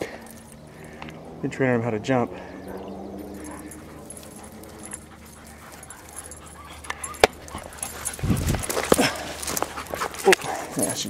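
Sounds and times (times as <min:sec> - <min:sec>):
dogs whining: 0:00.0 - 0:11.0.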